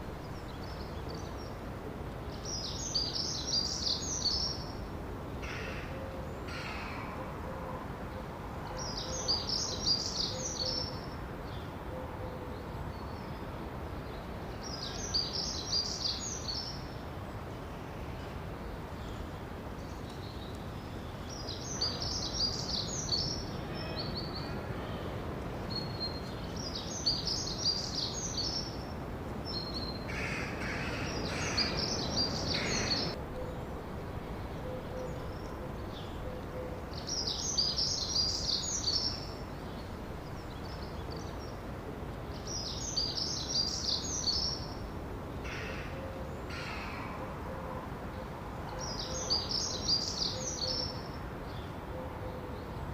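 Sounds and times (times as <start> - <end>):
steady background noise: 0.0 - 52.9.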